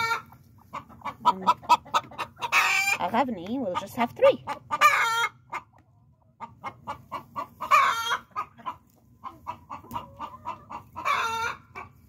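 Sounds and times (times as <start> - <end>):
drawn-out chicken call: 0.0 - 3.1, 4.6 - 12.0
chickens clucking: 0.0 - 12.0.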